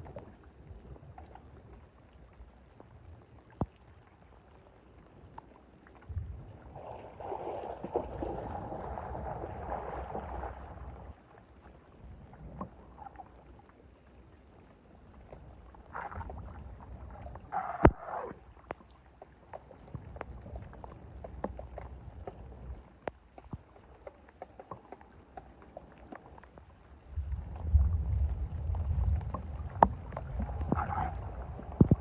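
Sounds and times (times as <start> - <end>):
water splashing and sloshing: 0.0 - 32.0.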